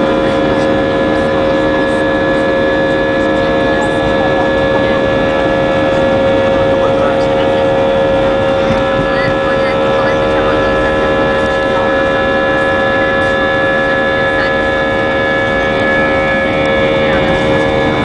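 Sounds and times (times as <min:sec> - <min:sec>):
jet engines whining in cabin: 0:00.0 - 0:18.0.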